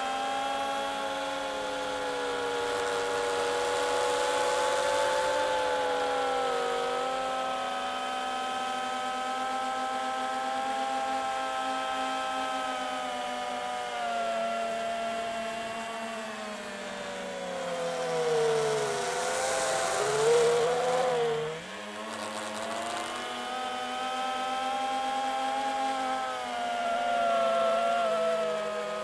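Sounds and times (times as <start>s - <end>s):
drone motors whining: 0.1s - 29.0s.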